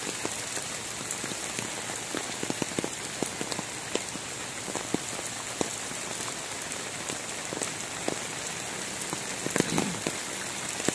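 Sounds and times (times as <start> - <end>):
heavy rain hissing: 0.0 - 10.9
raindrop ticks: 0.0 - 10.9.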